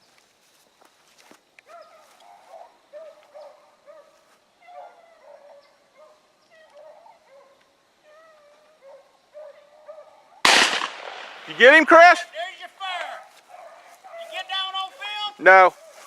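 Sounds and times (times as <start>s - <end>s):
distant dogs baying: 1.6s - 16.0s.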